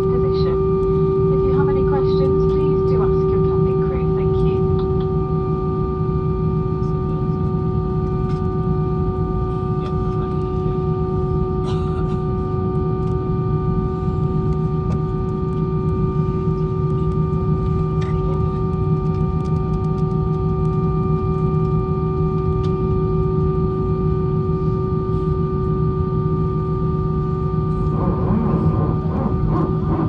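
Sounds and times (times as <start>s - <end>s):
aircraft cabin engine noise: 0.0s - 30.0s.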